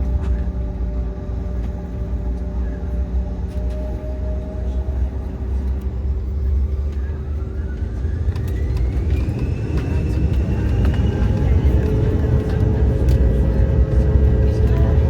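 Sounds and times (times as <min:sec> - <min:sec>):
jet engine whine rising: 0:00.0 - 0:15.0
jet engines rumbling: 0:00.0 - 0:15.0.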